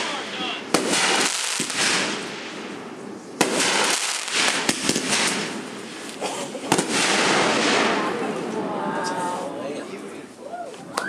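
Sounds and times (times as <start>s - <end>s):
fireworks bangs: 0.0s - 9.4s
fireworks crackling: 0.0s - 11.0s.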